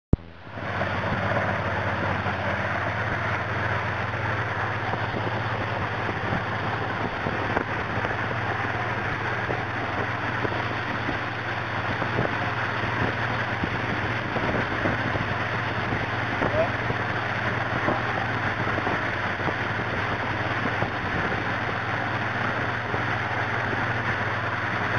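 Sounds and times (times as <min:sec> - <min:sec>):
motorboat engine humming: 0:00.1 - 0:24.9
boat wake rushing: 0:00.2 - 0:24.9.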